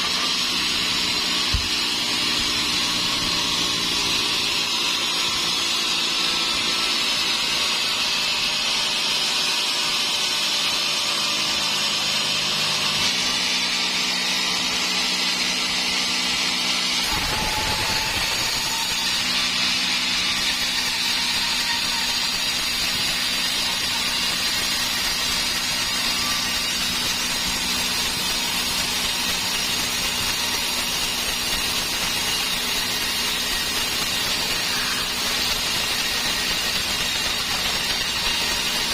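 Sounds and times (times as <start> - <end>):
sawmill saw cutting wood: 0.0 - 38.9.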